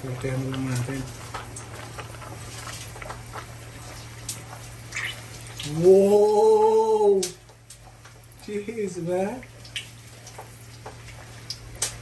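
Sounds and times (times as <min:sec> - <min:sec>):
pork skin popping in hot oil: 0:00.0 - 0:08.6, 0:09.3 - 0:12.0
oil sizzling: 0:00.0 - 0:12.0.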